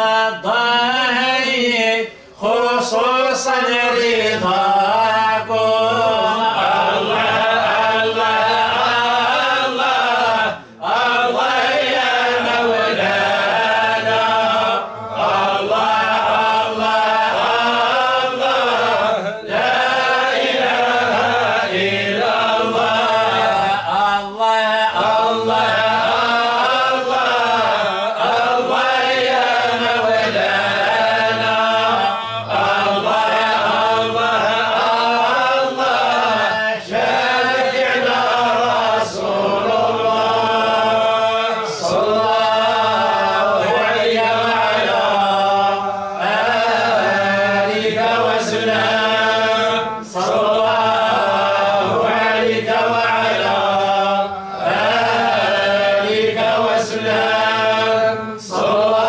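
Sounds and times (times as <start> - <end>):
male voices chanting: 0.0 - 59.0.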